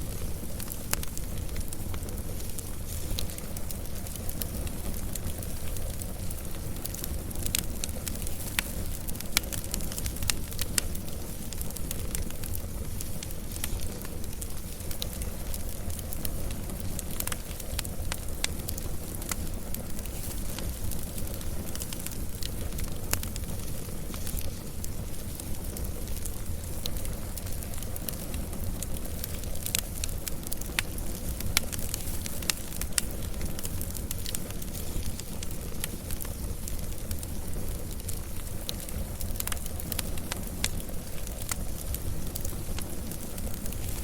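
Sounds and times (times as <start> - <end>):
fire crackling and popping: 0.0 - 44.0
low rumble of flames: 0.0 - 44.0.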